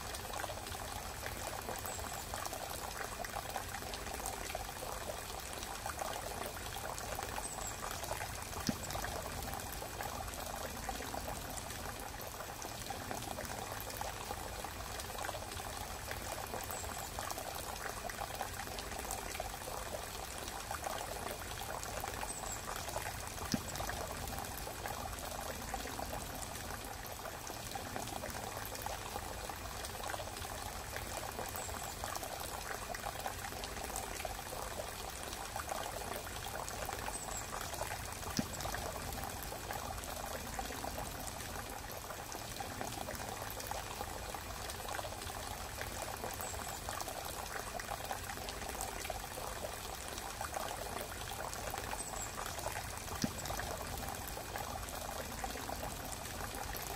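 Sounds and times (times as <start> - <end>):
rushing trickling water: 0.0 - 56.9.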